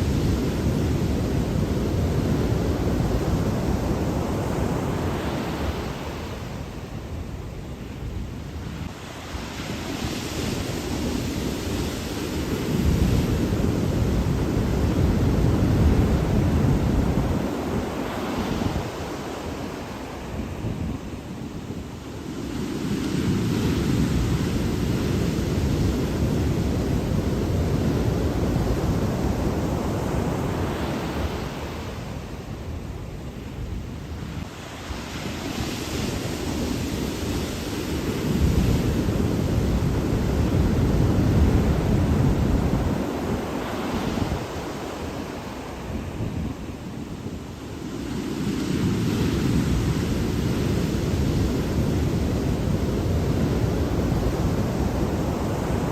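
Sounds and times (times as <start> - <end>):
ocean waves breaking: 8.5 - 55.9.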